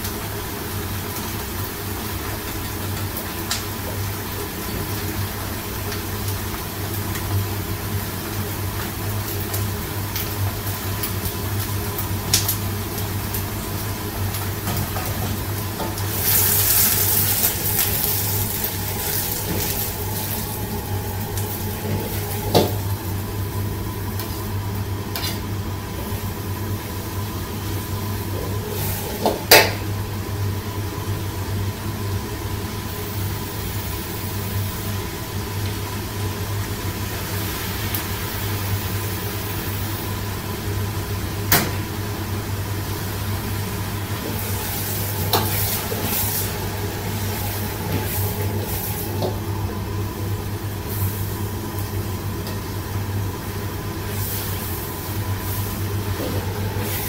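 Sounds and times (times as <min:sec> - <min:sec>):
low hum of kitchen burner: 0:00.0 - 0:57.0
vegetables sizzling in a wok: 0:00.0 - 0:57.0.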